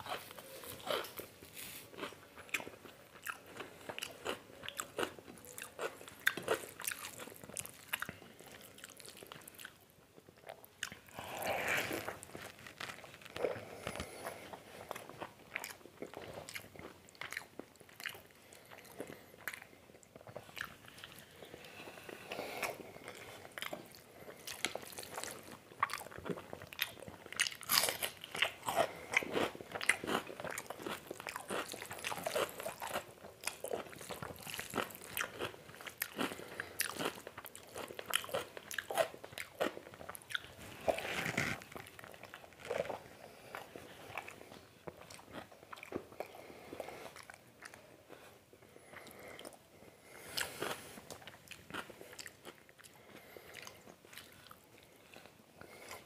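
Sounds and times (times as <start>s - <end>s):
person chewing with wet mouth sounds: 0.0s - 56.0s.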